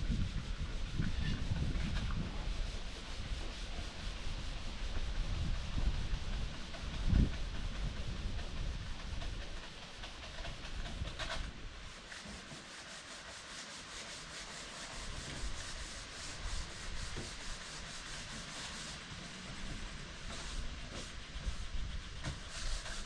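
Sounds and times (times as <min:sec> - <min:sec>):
sandpaper rubbing: 0:00.1 - 0:23.0.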